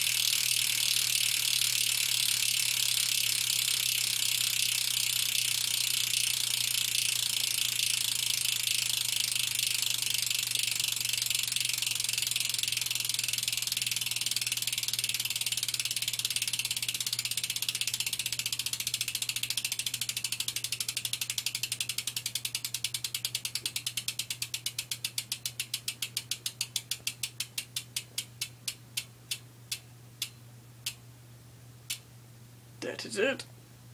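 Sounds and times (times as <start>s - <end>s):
bicycle hub ratchet clicking: 0.0s - 31.0s.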